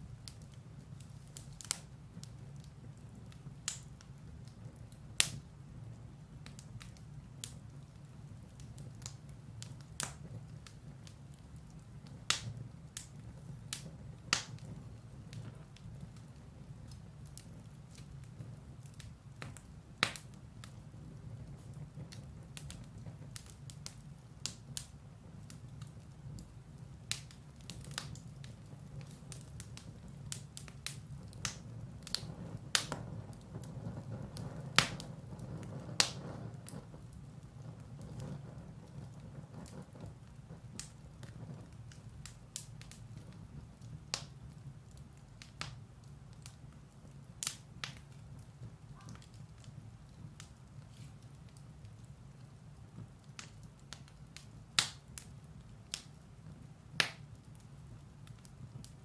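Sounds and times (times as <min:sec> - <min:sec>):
fire rumbling: 0:00.0 - 0:59.0
firewood crackling and popping: 0:00.0 - 0:59.0.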